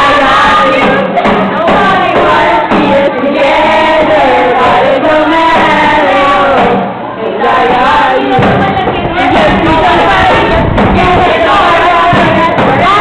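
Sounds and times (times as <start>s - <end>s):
group singing: 0.0s - 13.0s.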